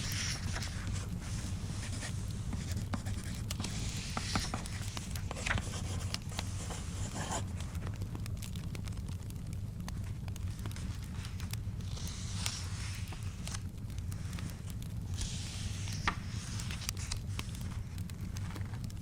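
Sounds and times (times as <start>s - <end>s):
pages turning: 0.0s - 8.0s, 10.6s - 19.0s
fire crackling: 0.0s - 19.0s.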